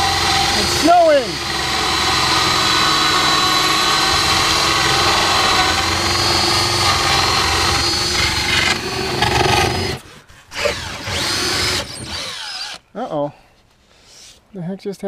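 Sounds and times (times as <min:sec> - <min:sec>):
cordless drill with hole saw: 0:00.0 - 0:12.8.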